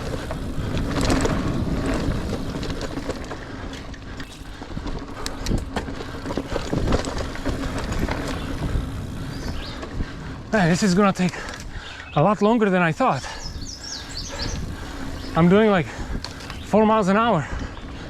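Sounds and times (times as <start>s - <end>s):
bike rattling clicks and knocks: 0.0s - 18.0s
bike tyre noise on dirt: 0.0s - 18.0s
wind buffeting microphone: 0.0s - 18.0s.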